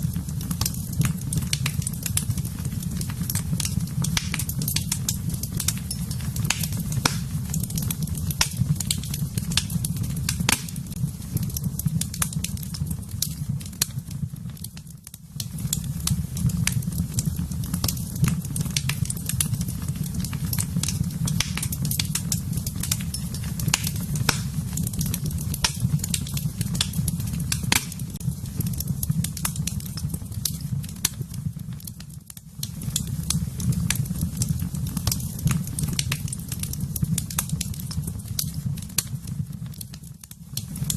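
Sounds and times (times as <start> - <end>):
fire crackling and popping: 0.0 - 40.9
fire rumbling in fireplace: 0.0 - 40.9.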